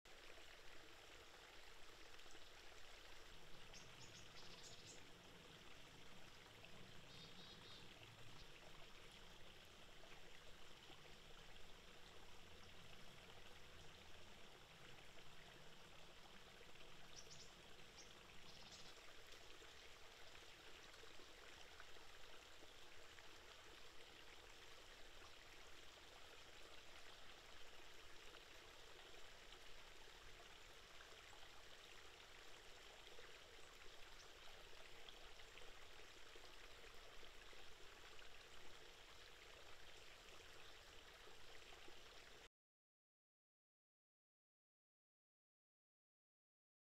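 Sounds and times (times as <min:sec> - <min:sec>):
water trickling: 0:00.1 - 0:42.5.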